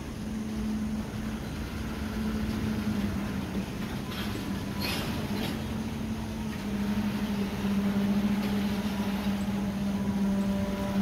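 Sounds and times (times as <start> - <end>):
diesel locomotive drone: 0.0 - 11.0
train rumble: 0.0 - 11.0.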